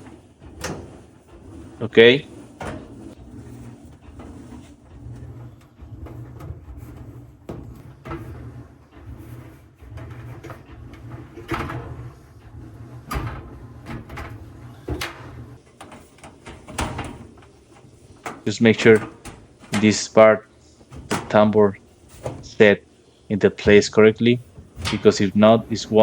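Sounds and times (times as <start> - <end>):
sheet metal panels knocking: 0.0 - 26.0.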